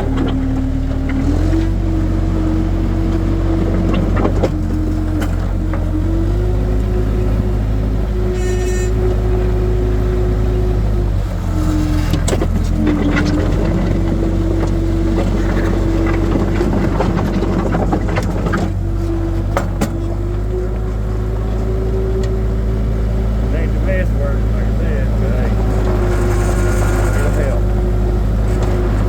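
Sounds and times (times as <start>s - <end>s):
rattling and scraping dirt: 0.0s - 9.3s, 11.2s - 24.1s, 24.8s - 29.0s
skid steer engine running: 0.0s - 29.0s.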